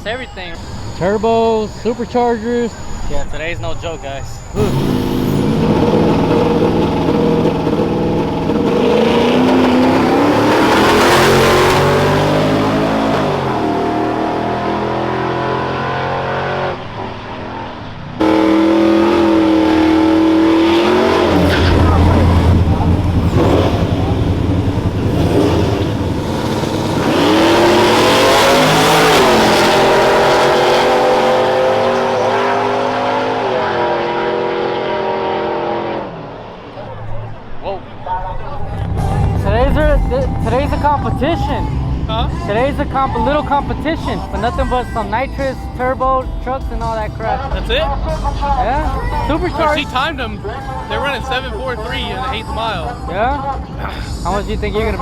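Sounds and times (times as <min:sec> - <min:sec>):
vehicle engine accelerating: 0:00.0 - 0:55.0.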